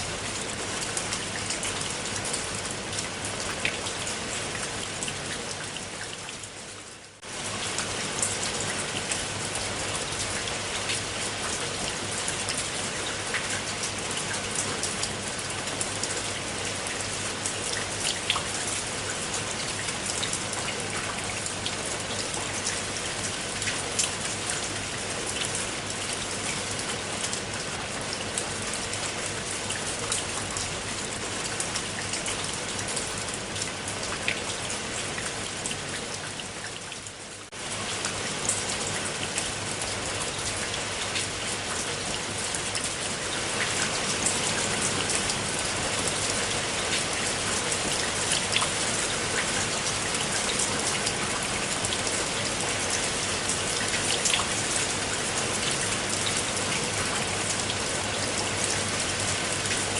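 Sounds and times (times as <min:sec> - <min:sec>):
raindrops ticking on a surface: 0:00.0 - 0:59.9
steady rain hiss: 0:00.0 - 0:59.9.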